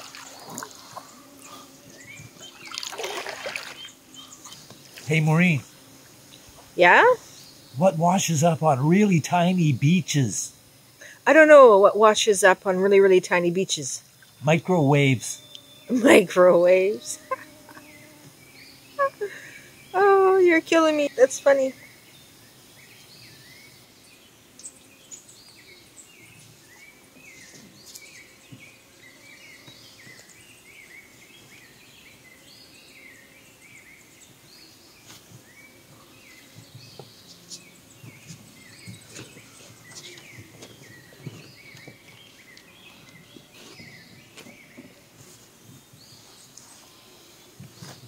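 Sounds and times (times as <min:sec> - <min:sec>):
faint outdoor hiss: 0:00.0 - 0:48.0
small birds chirping: 0:00.0 - 0:48.0.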